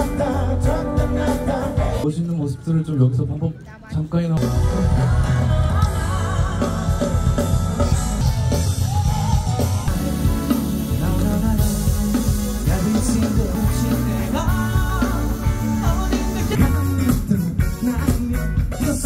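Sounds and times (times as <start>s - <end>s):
pop-rock band playing: 0.0s - 2.1s, 4.4s - 19.0s
singer: 0.0s - 2.2s, 4.4s - 19.0s.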